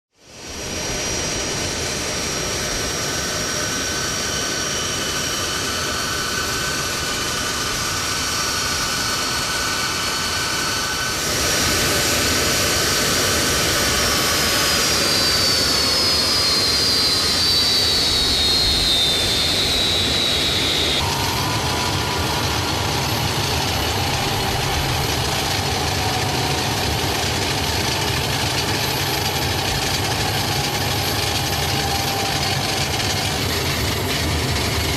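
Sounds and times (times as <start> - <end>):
jet turbine engines running: 0.2 - 34.9.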